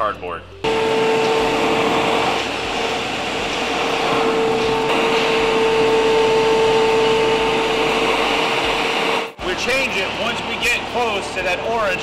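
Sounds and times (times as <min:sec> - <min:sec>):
fan motor rushing air: 0:00.6 - 0:12.0.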